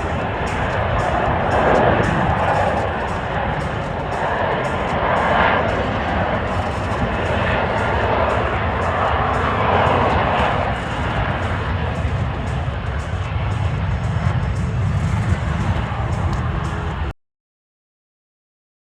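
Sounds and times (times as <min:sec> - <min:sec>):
jet engine rushing: 0:00.0 - 0:17.1.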